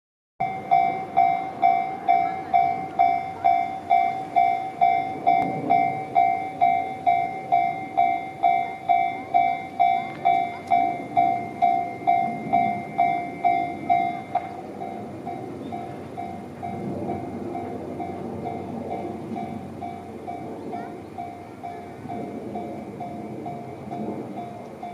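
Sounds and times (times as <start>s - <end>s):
level-crossing warning bell ringing: 0.4s - 24.9s.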